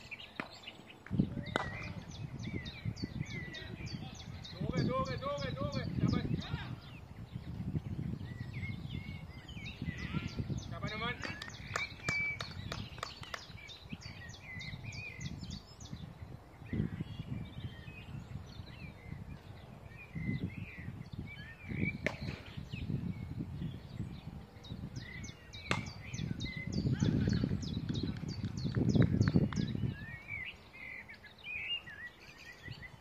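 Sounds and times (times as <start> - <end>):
birds chirping and singing: 0.0 - 33.0
wind gusting on microphone: 0.0 - 33.0.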